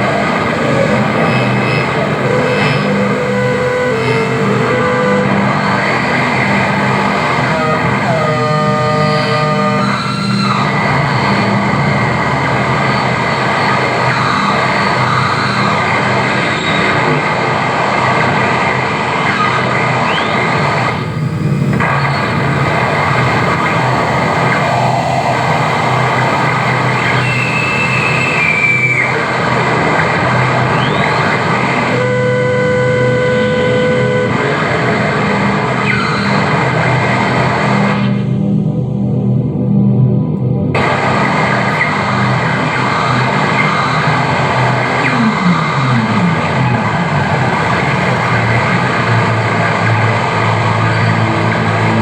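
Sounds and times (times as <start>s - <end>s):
held electronic tone: 0.0s - 17.2s, 19.2s - 37.4s, 41.1s - 52.0s
rising feedback whistles: 0.0s - 38.3s, 40.8s - 52.0s
distorted electronic noise: 0.0s - 39.1s, 39.7s - 52.0s.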